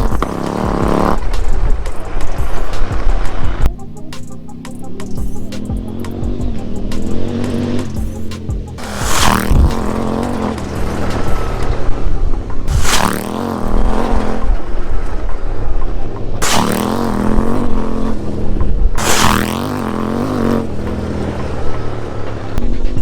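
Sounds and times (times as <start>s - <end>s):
loud rushing bursts: 0.0s - 23.0s
motorcycle engine revving: 0.0s - 23.0s.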